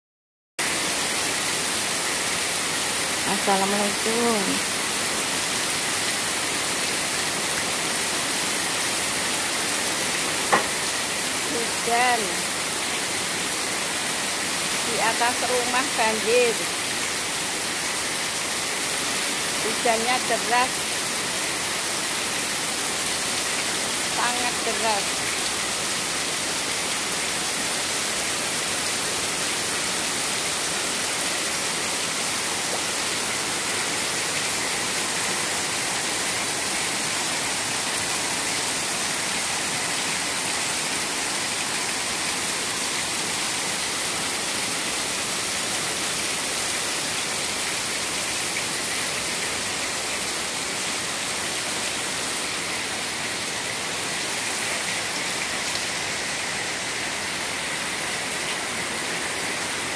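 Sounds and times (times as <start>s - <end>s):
heavy rain splashing on wet concrete: 0.6s - 59.9s.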